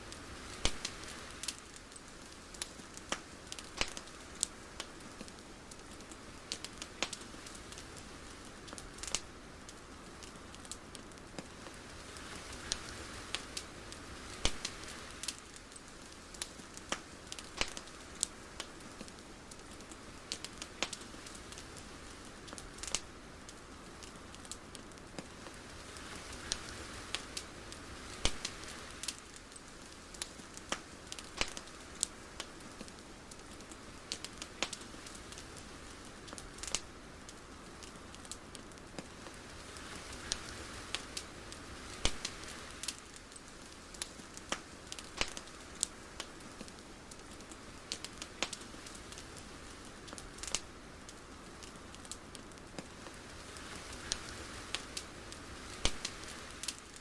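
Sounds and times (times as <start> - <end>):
sharp crackles and clicks: 0.0 - 57.0
soft steady hiss: 0.0 - 57.0.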